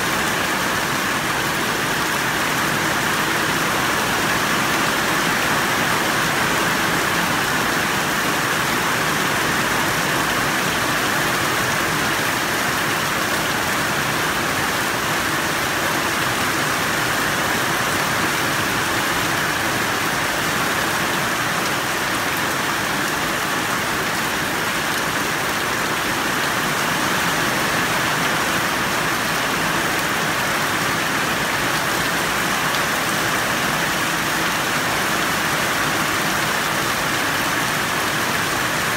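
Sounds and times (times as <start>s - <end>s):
heavy rain splashing into buckets: 0.0s - 38.9s.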